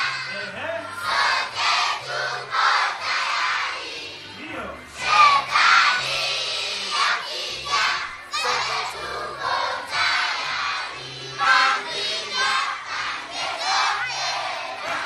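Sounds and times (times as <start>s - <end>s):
children singing and shouting: 0.0s - 15.0s.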